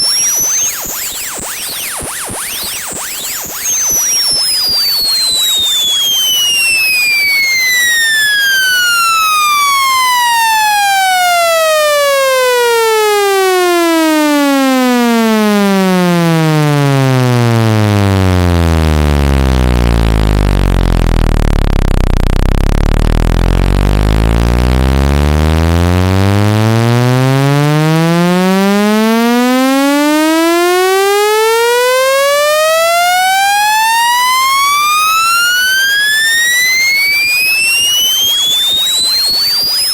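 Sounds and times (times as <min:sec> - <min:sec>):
buzzy sweeping test tone: 0:00.0 - 0:39.9.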